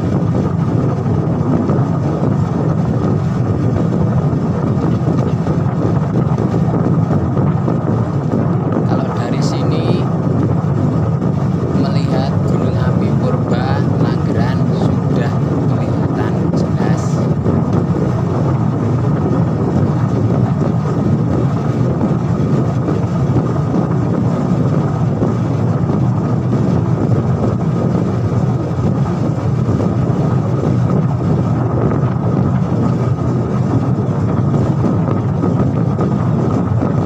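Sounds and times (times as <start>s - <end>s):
faint steady whine: 0.0s - 37.0s.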